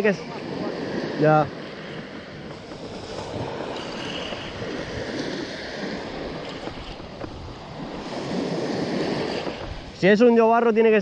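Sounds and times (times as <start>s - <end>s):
small waves breaking on beach: 0.0s - 11.0s
wind rumbling on microphone: 0.0s - 11.0s.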